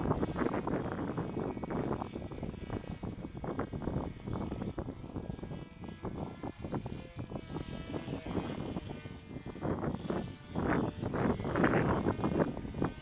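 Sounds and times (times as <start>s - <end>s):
electric motor and propeller whine: 0.0s - 13.0s
wind buffeting microphone: 0.0s - 13.0s.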